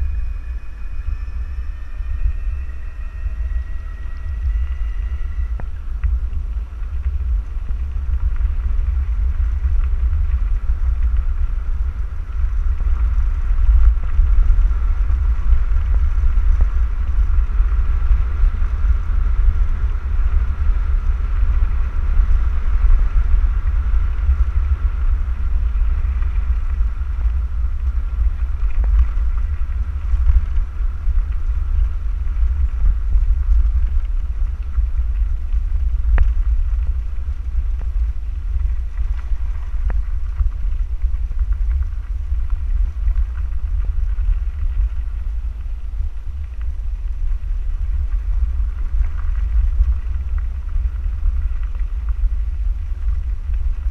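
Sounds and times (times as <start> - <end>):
faint steady whine: 0.0 - 53.9
wind buffeting microphone: 0.0 - 53.9.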